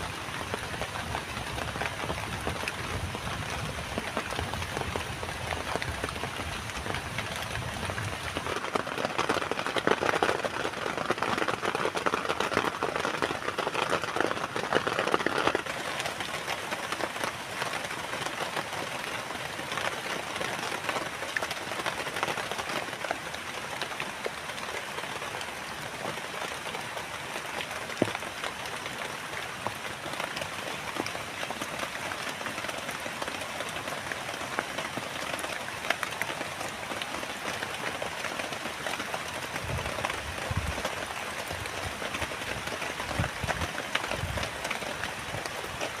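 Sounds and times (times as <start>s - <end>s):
rain drops ticking: 0.0s - 46.0s.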